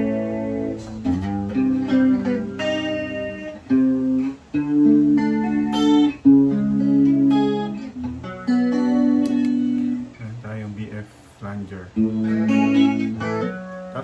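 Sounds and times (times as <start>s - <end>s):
guitar chords strummed with chorus: 0.0s - 14.0s.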